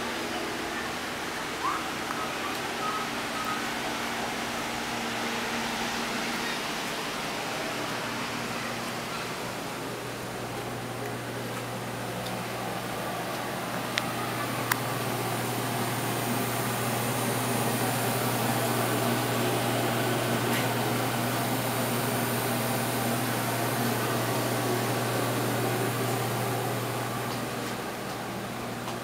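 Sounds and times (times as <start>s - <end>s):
ventilation fan whirring: 0.0s - 29.0s.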